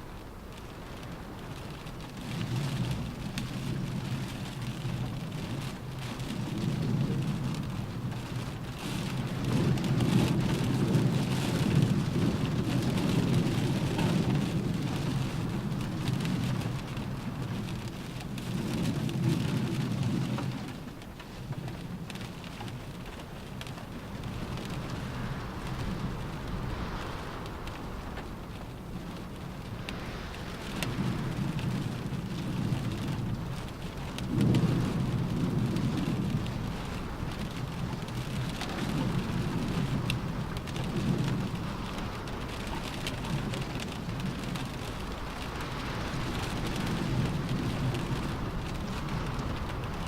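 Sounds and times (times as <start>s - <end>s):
rain drumming on car roof: 0.0s - 50.0s.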